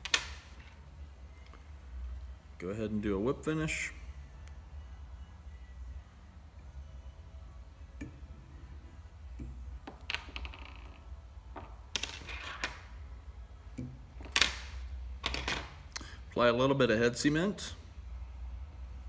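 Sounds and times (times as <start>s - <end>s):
steady low hum: 0.0s - 10.2s, 12.8s - 19.0s.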